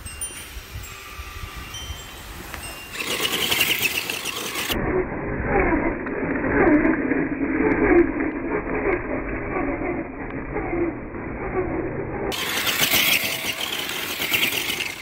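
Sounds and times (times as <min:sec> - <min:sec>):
toy truck motor whirring: 0:00.8 - 0:15.0.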